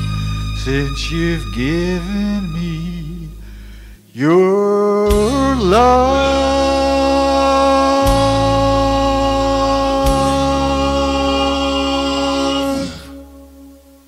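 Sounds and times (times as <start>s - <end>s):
backing track of low chords: 0.0s - 14.0s
man singing: 0.6s - 3.4s, 4.1s - 13.2s.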